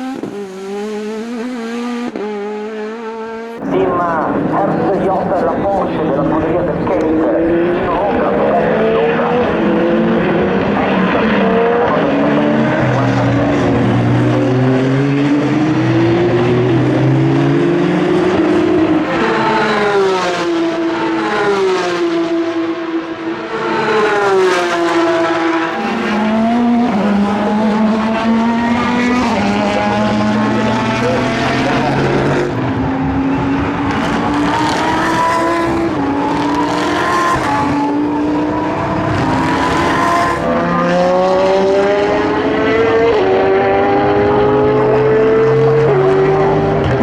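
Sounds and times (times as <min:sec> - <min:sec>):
race cars passing: 0:00.0 - 0:47.0.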